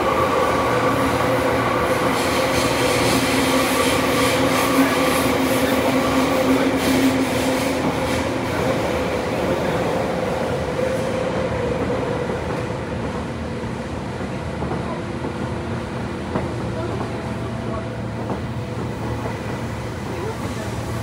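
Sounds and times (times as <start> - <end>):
train wheel and rail noise: 0.0 - 21.0.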